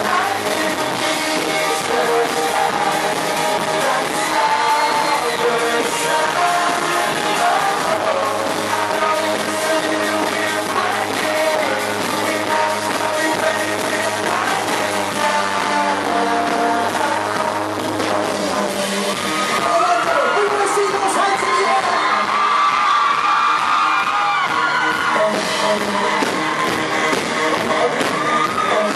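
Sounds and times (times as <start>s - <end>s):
live pop-rock band playing: 0.0s - 28.9s.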